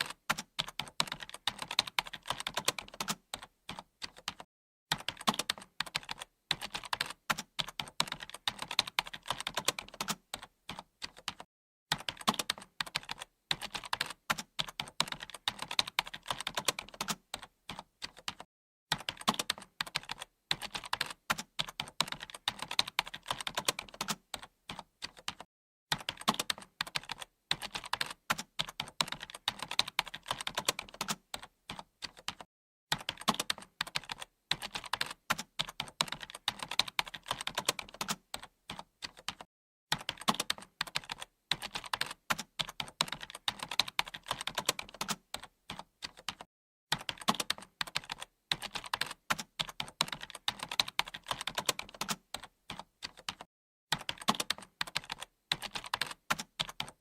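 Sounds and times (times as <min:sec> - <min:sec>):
computer keyboard typing: 0:00.0 - 0:57.0.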